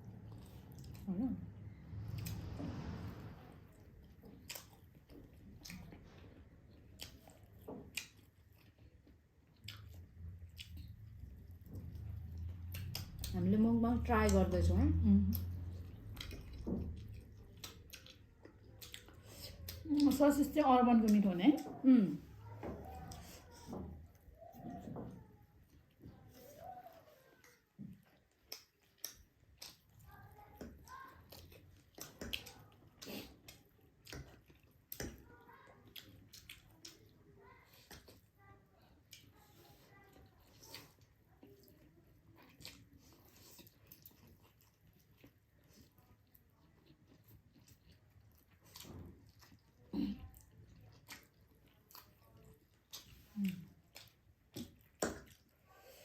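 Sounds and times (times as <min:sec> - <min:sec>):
chewing noodles: 0:00.0 - 0:01.1, 0:01.7 - 0:13.4, 0:14.2 - 0:20.2, 0:21.6 - 0:56.0.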